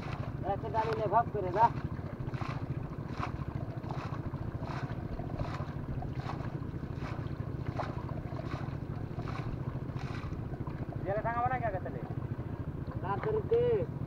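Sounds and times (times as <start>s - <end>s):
low rumble: 0.0s - 13.3s.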